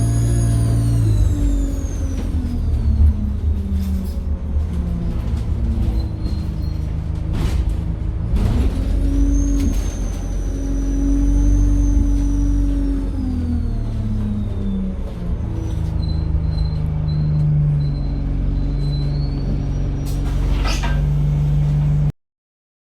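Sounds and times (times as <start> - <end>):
bus engine running: 0.0 - 22.1.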